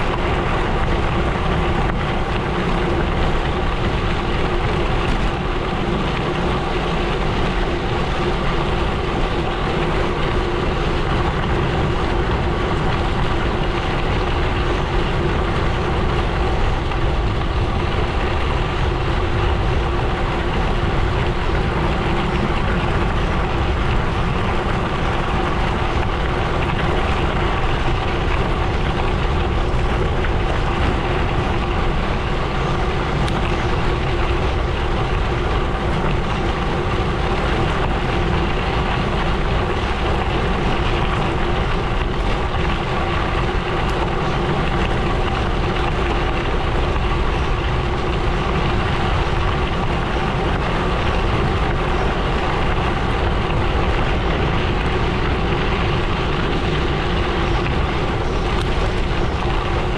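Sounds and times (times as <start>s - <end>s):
bike tyres rolling over gravel: 0.0s - 59.9s.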